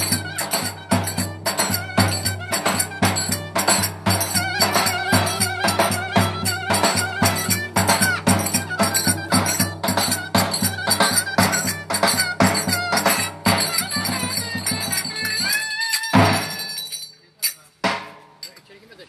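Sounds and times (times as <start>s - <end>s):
lively dance melody: 0.0s - 17.1s
jingling percussion beat: 0.0s - 19.0s.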